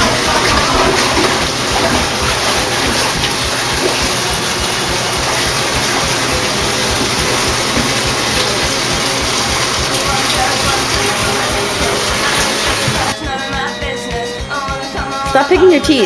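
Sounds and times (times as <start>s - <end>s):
water rushing into bathtub: 0.0s - 13.2s.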